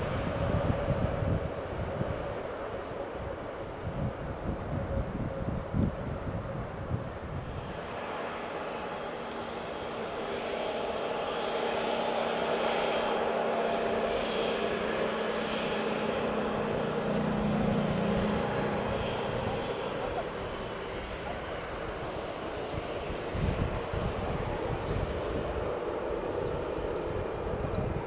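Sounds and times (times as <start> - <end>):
jet engines humming and whining: 0.0 - 28.0.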